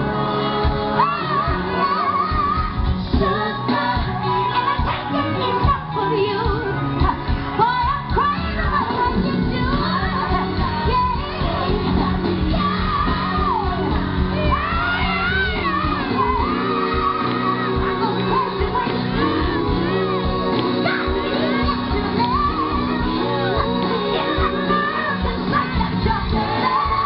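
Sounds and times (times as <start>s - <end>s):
live band bass and drums: 0.0s - 27.0s
woman singing lead: 0.0s - 27.0s.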